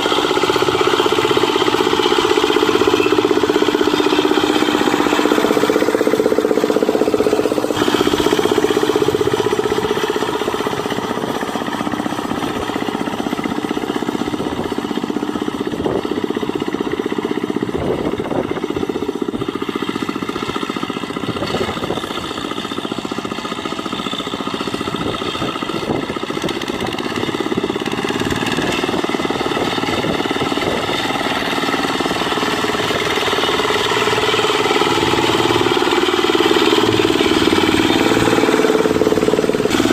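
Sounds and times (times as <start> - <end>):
hand tractor diesel engine chugging: 0.0 - 39.9.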